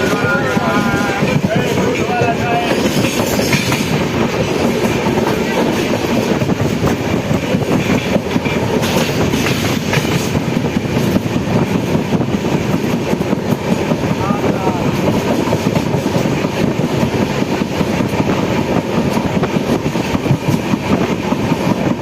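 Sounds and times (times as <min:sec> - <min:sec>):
train rumbling on rails: 0:00.0 - 0:22.0
wheels and carriages rattling: 0:00.0 - 0:22.0.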